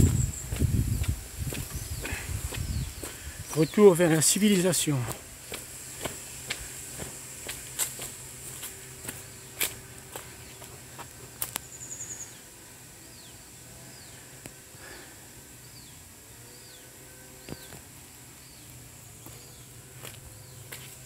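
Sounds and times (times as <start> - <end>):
high-pitched insect buzz: 0.0 - 21.0.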